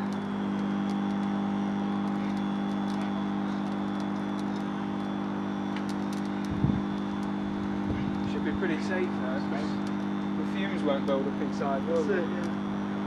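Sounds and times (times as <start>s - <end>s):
faint crackling ticks of fire: 0.0s - 12.6s
microwave oven mains hum: 0.0s - 13.0s.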